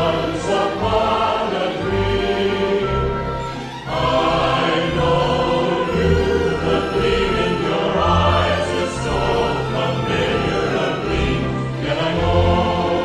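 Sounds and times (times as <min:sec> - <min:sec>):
choir singing: 0:00.0 - 0:13.0
orchestral music: 0:00.0 - 0:13.0.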